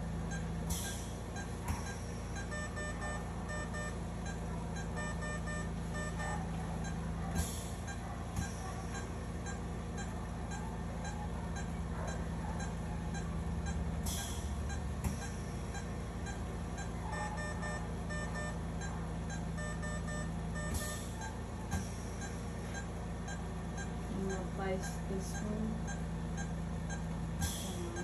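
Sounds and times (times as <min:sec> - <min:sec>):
steady hum: 0:00.0 - 0:28.0
faint electronic beeping: 0:00.3 - 0:28.0.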